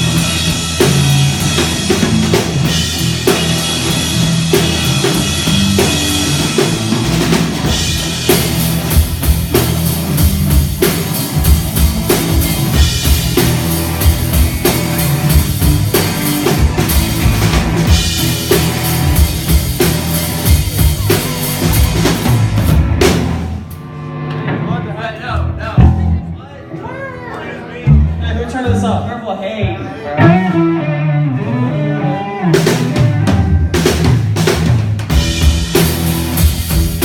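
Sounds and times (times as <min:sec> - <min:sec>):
steady bass notes: 0:00.0 - 0:26.5, 0:27.8 - 0:37.0
live rock band playing: 0:00.0 - 0:37.0.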